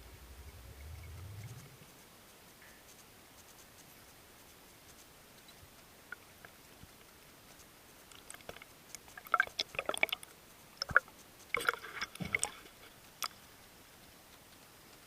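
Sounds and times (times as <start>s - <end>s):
sharp clicks and crackling: 0.8s - 15.0s.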